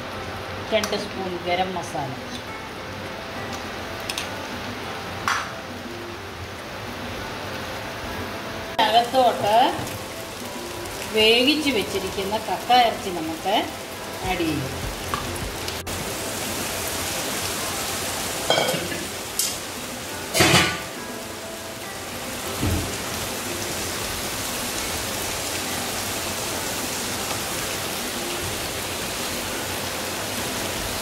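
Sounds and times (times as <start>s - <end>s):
food sizzling in a wok: 0.0s - 31.0s.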